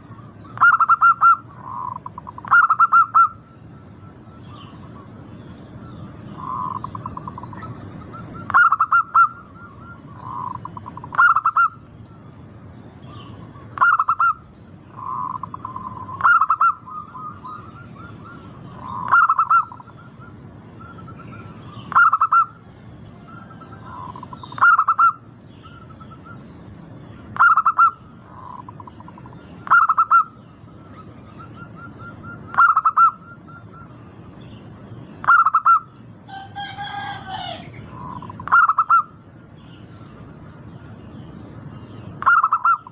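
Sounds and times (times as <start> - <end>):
doves cooing: 0.0 - 12.0, 13.1 - 26.4, 27.2 - 34.2, 35.2 - 39.2, 42.1 - 42.9
steady low background noise: 0.0 - 42.9.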